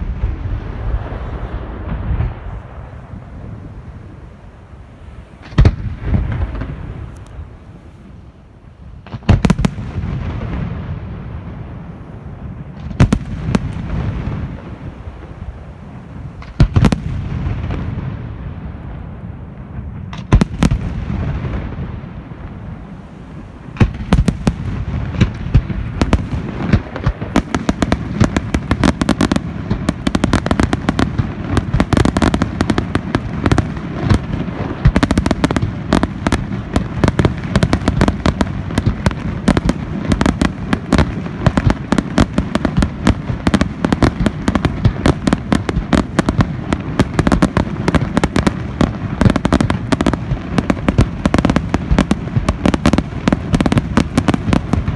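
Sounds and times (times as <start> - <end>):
fireworks barrage of bangs and crackles: 0.0 - 54.9.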